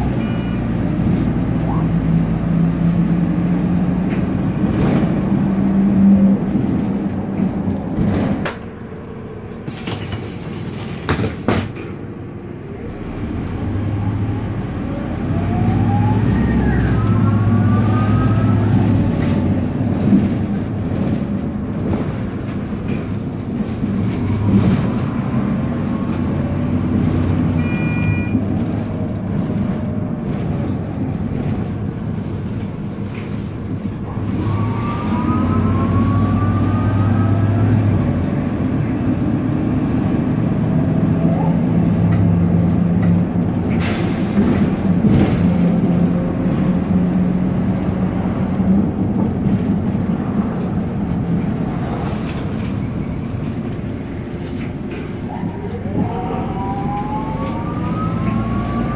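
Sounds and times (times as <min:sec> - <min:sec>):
bus diesel engine: 0:00.0 - 0:58.9.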